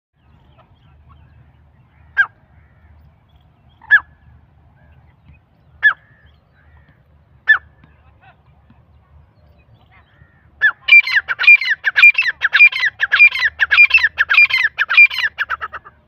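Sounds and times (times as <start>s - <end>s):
partridges calling: 0.2s - 7.9s, 9.0s - 15.9s.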